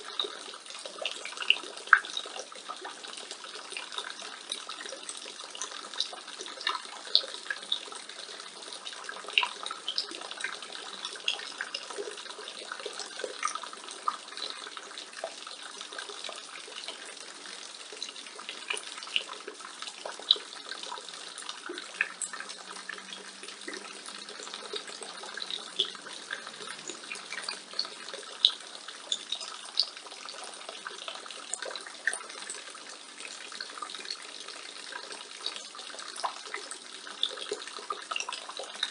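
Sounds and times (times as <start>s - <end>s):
rainwater splashing from gutter: 0.0s - 38.9s
sharp drips and splashes: 0.0s - 38.9s.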